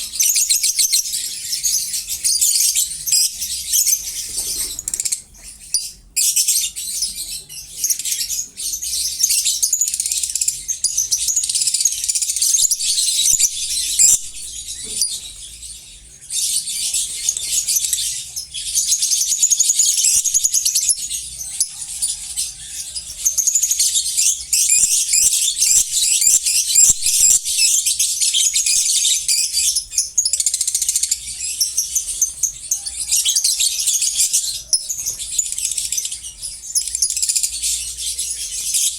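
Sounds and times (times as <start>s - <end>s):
lovebirds chattering and screeching: 0.0s - 38.9s.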